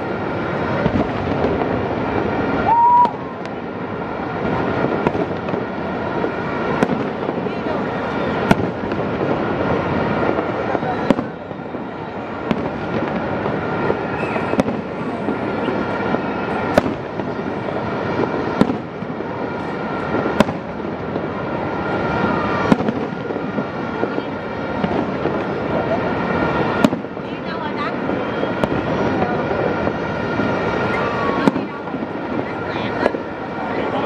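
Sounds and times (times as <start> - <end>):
fireworks bursts and crackle: 0.0 - 34.0
fireworks sharp bangs: 0.0 - 34.0.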